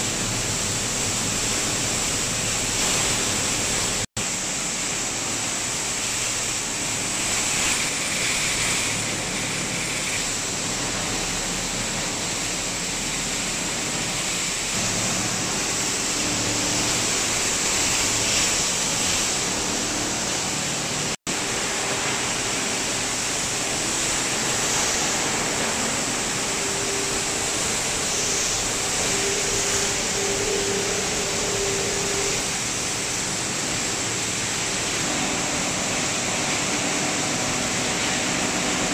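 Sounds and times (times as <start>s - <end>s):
machinery and water rushing: 0.0s - 38.9s.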